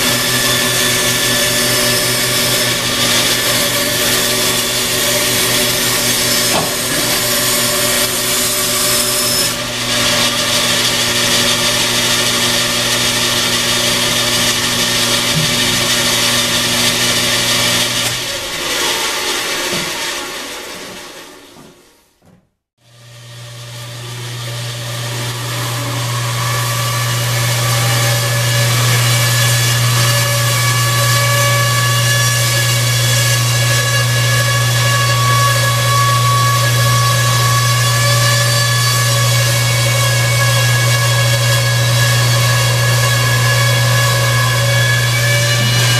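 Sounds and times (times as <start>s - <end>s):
bandsaw cutting wood: 0.0s - 21.6s, 22.8s - 45.9s.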